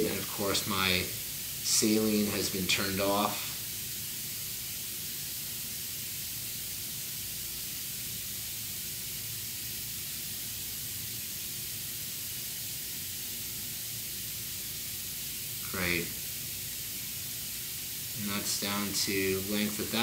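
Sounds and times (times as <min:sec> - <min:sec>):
dental motor hissing: 0:00.0 - 0:20.0.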